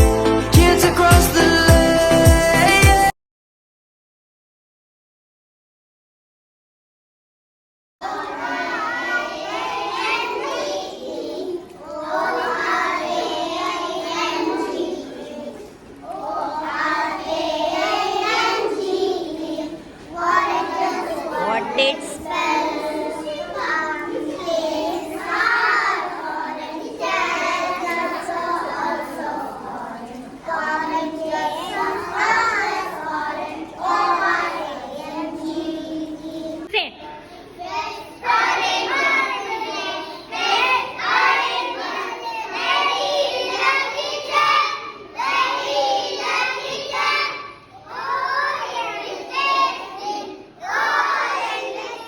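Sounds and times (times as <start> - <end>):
children singing and calling out: 8.0 - 52.0.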